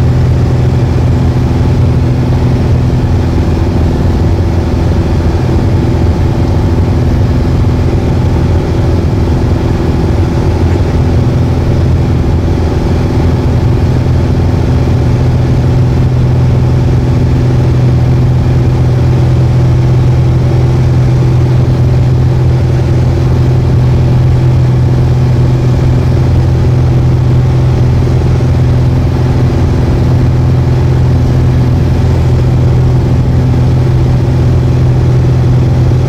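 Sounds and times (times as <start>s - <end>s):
plane engine droning: 0.0s - 36.0s.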